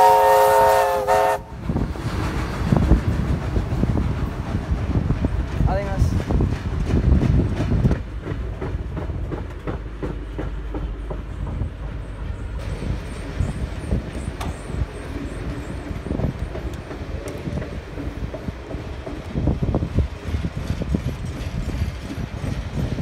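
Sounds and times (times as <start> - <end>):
steel wheels rumbling on rail: 0.0 - 23.0
wheels clacking over rail joints: 1.6 - 23.0.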